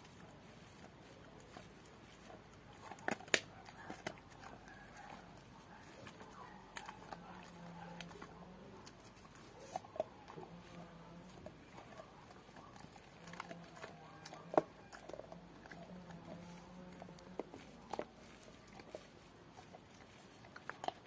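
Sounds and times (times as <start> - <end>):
dog chewing a bone: 0.0 - 21.0
teeth cracking and crunching bone: 0.0 - 21.0.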